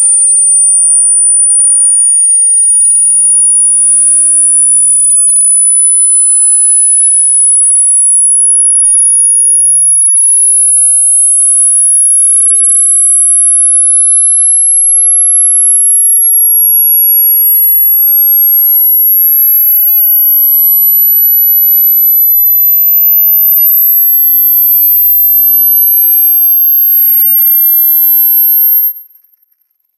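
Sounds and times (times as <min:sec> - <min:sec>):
high-pitched electronic sine tone: 0:00.0 - 0:29.9.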